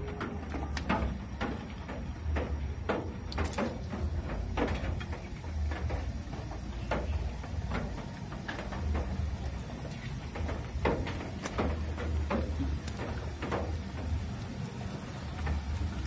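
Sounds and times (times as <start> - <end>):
banana slices frying in oil: 0.0 - 16.0
low steady hum: 0.0 - 16.0.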